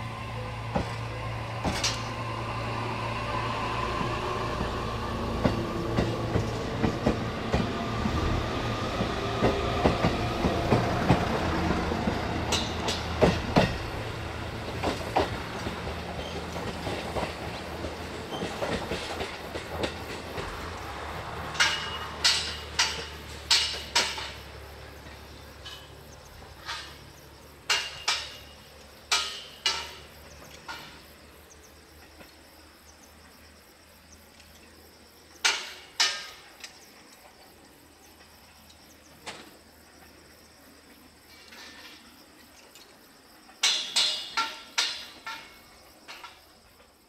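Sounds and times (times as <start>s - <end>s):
high insect trill: 0.0s - 47.0s
railcar engine drone: 0.0s - 47.0s.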